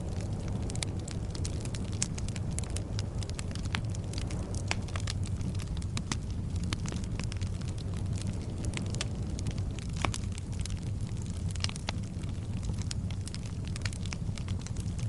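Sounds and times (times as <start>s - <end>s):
burning wood crackling and popping: 0.0s - 15.0s
roar of flames: 0.0s - 15.0s.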